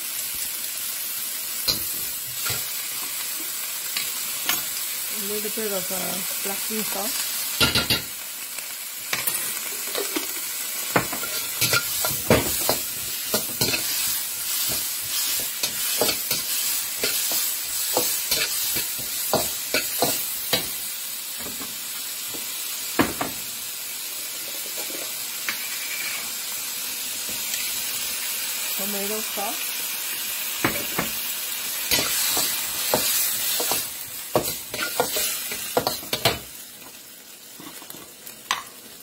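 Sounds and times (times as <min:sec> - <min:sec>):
onions sizzling in a wok: 0:00.0 - 0:39.0.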